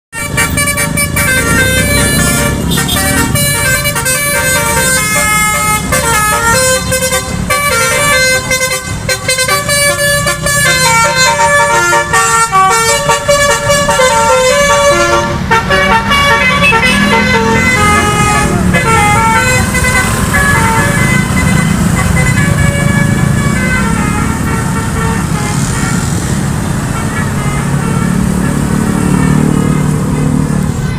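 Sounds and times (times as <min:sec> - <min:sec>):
bus noise: 0:00.1 - 0:30.9
musical air horn playing a tune: 0:00.1 - 0:30.9.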